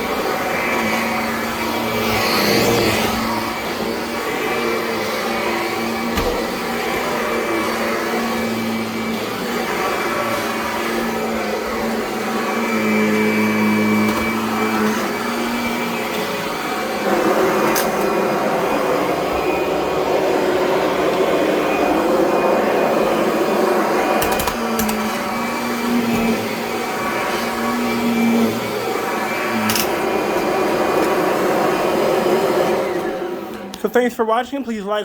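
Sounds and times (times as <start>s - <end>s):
vacuum cleaner running on carpet: 0.0s - 33.8s.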